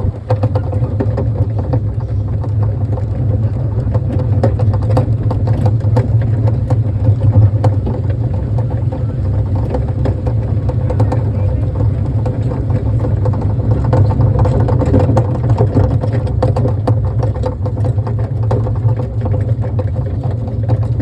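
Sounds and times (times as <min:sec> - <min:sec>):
kiddie train engine hum: 0:00.0 - 0:21.0
train rattling and clicking: 0:00.0 - 0:21.0.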